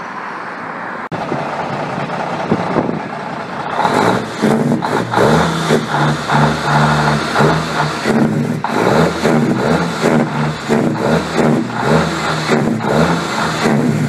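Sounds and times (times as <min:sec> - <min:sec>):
diesel truck engine revving: 0:01.1 - 0:14.0.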